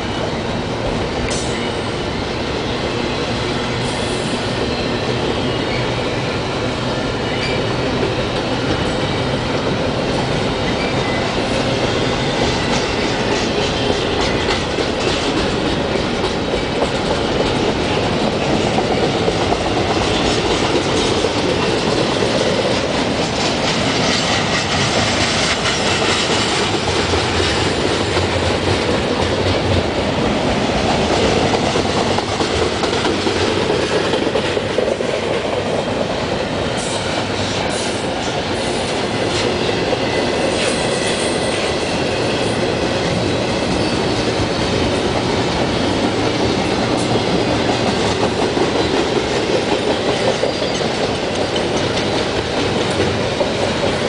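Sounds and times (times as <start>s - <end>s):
freight train wheels clattering: 0.3s - 54.0s.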